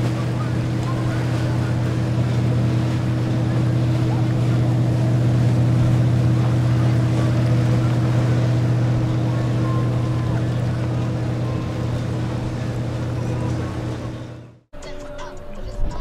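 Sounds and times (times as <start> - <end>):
hiss of boat wake: 0.0 - 14.2
yacht engines droning: 0.0 - 14.7.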